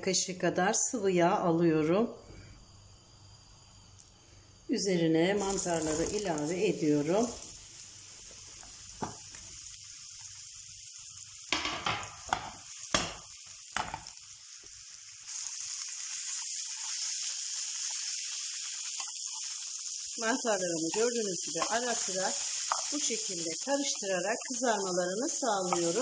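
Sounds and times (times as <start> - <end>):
mushrooms sizzling in a frying pan: 0.2 - 26.0.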